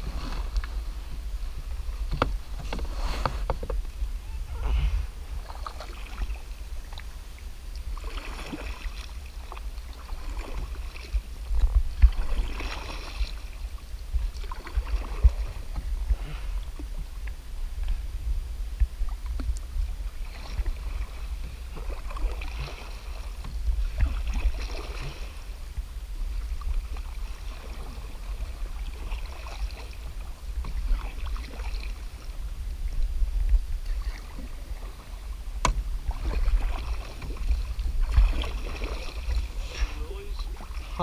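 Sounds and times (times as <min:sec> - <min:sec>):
paddles pulling through water: 0:00.0 - 0:41.0
steady low rumble: 0:00.0 - 0:41.0.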